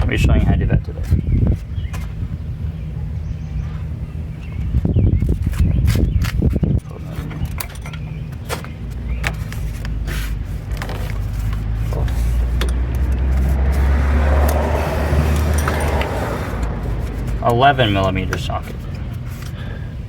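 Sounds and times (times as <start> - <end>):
car engine humming: 0.8 - 20.0.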